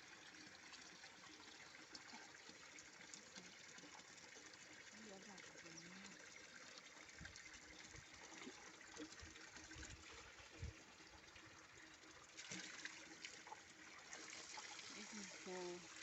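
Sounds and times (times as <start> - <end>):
faint running water: 0.0 - 16.0.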